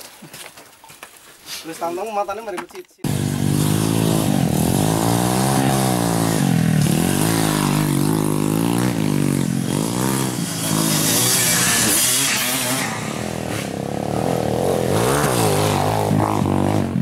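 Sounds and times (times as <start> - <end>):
motorcycle engine revving: 3.1 - 17.0.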